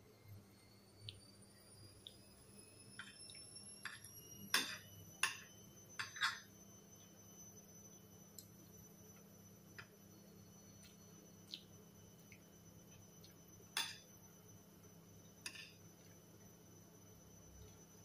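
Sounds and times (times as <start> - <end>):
faint room hum: 0.0 - 18.0.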